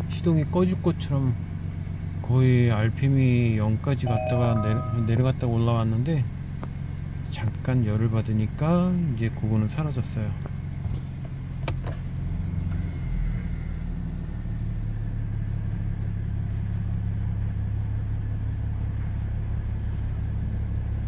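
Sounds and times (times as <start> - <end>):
car engine idling rough: 0.0 - 4.0, 5.4 - 21.0.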